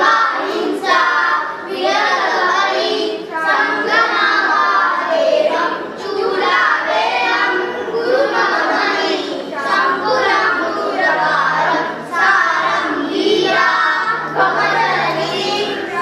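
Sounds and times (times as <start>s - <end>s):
children singing a prayer: 0.0s - 16.0s.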